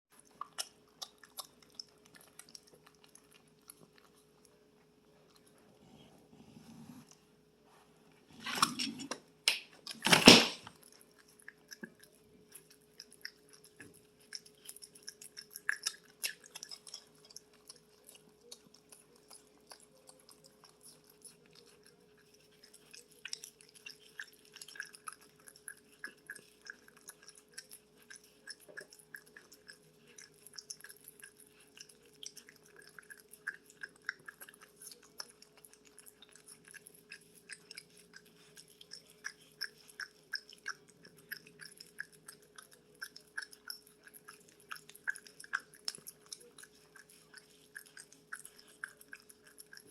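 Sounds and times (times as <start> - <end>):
faint steady hum: 0.1 - 49.9
opossum chewing food: 0.1 - 49.9.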